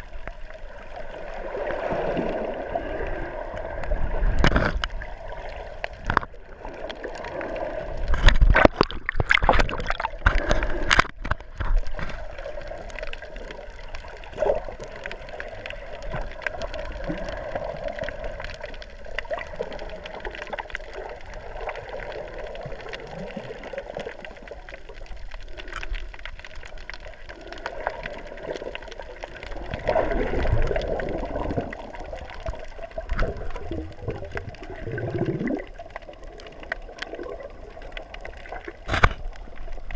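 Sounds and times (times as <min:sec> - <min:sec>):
muffled underwater gurgling: 0:00.0 - 0:39.9.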